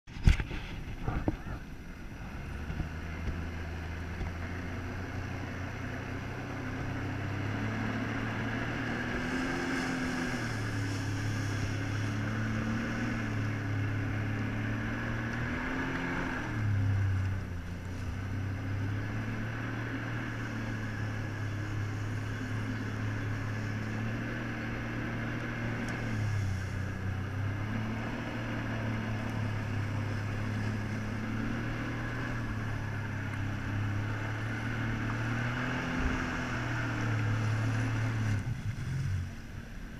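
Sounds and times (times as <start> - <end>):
jet ski engine running: 0.1 - 39.9.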